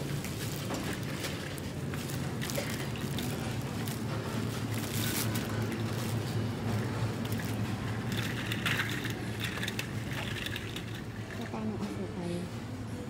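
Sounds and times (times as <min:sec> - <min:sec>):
rustling and handling: 0:00.0 - 0:12.0
low steady hum: 0:00.0 - 0:13.0.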